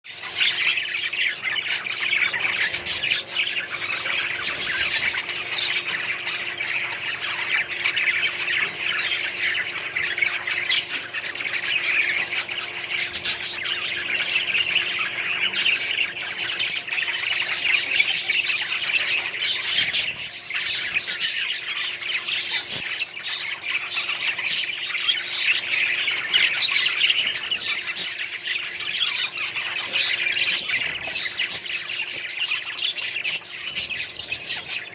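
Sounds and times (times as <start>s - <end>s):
budgerigars chattering: 0.1s - 34.9s
faint steady hum: 0.1s - 34.9s.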